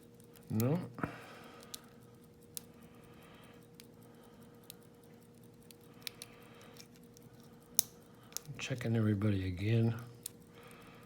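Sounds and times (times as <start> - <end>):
faint steady hum: 0.0 - 11.0
lock pick ticking in a lock: 0.0 - 11.0.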